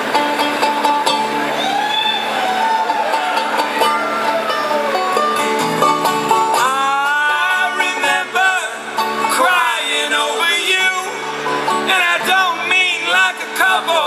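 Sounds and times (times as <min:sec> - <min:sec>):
live acoustic folk-rock band: 0:00.0 - 0:14.0
picked banjo and guitar: 0:00.0 - 0:14.0.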